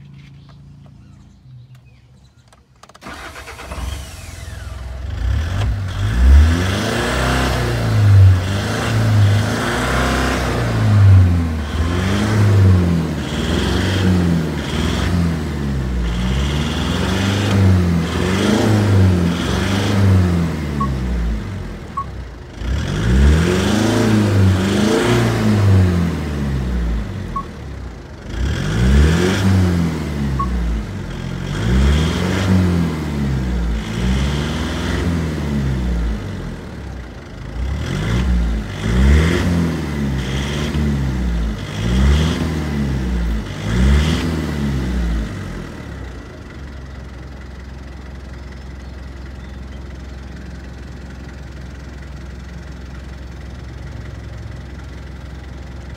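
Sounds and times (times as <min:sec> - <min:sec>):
diesel engine revving: 0:02.8 - 0:55.9.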